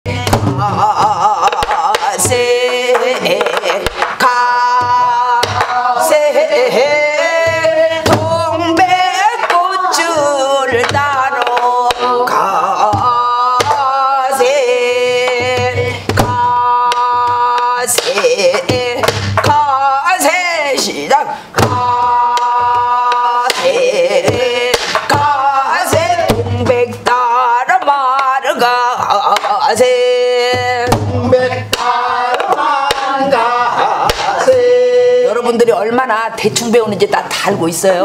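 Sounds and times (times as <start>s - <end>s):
drum strokes: 0.1s - 19.8s, 21.5s - 28.0s, 30.4s - 34.7s.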